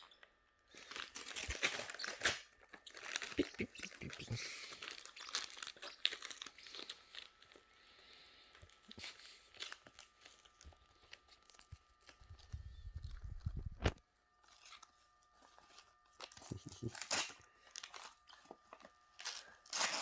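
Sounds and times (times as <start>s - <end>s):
bird tearing wrapping paper: 0.7s - 3.4s, 4.0s - 20.0s.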